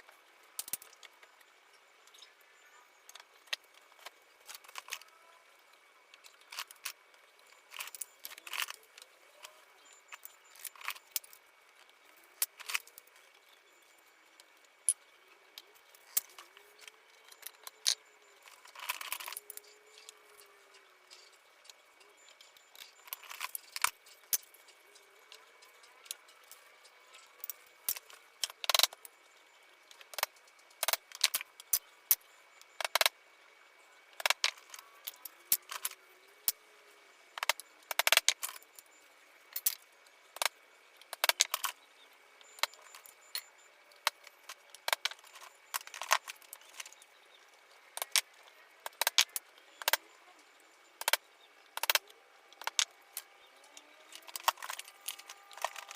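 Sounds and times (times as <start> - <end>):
wooden parts clicking and knocking: 0.6 - 29.2, 29.8 - 33.2, 34.1 - 55.9.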